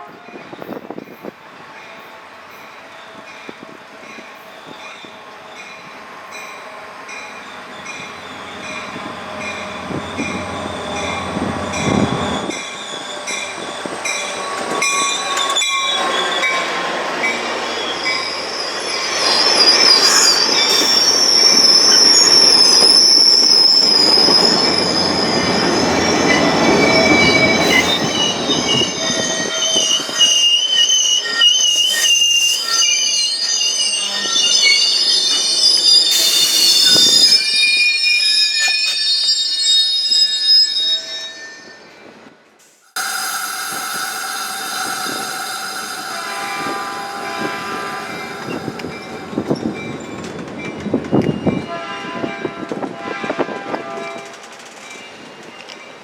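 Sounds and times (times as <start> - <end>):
train passing: 0.0 - 40.0, 41.4 - 56.0
wheels squealing on rails: 0.0 - 56.0.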